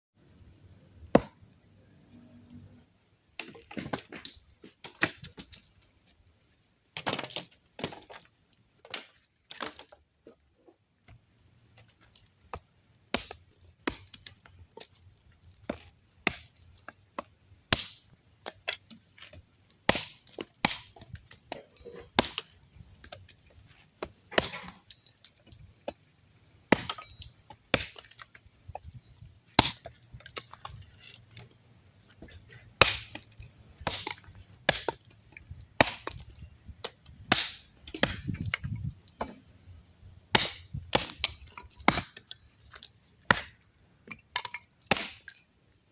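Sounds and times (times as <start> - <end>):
wood cracking and snapping: 2.1 - 39.4, 40.3 - 45.9.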